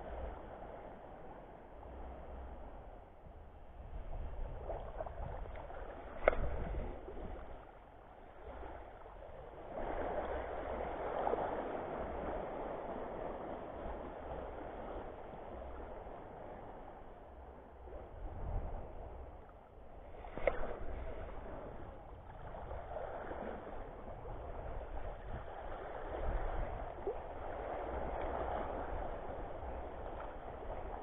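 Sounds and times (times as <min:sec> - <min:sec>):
water lapping at the shore: 0:00.0 - 0:31.0
wind on microphone: 0:00.0 - 0:31.0.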